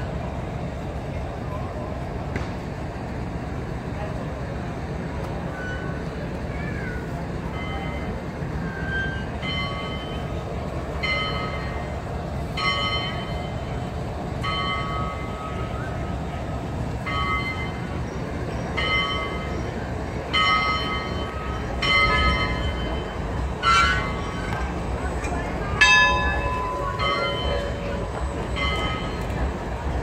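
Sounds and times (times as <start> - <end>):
locomotive bell ringing: 5.3 - 30.0.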